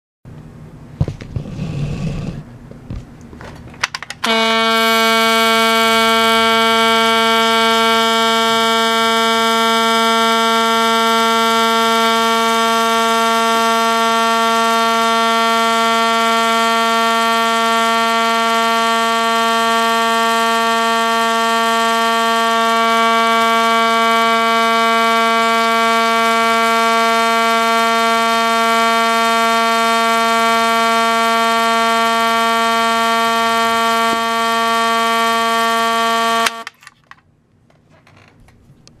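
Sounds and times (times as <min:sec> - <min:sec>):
fire alarm horn buzzing: 0:04.2 - 0:36.9.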